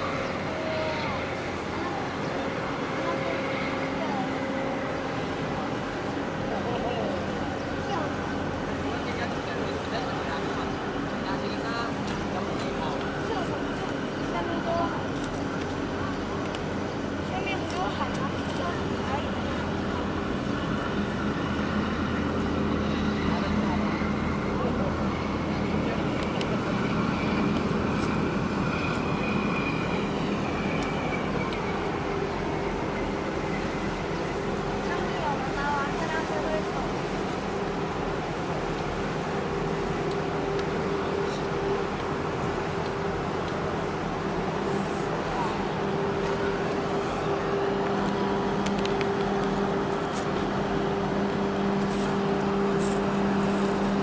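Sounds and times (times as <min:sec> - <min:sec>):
faint high whine: 0:00.0 - 0:54.0
outdoor noise: 0:00.0 - 0:54.0
rushing background noise: 0:00.0 - 0:54.0
ship engine drone: 0:00.0 - 0:54.0
steady machine hum: 0:00.0 - 0:54.0.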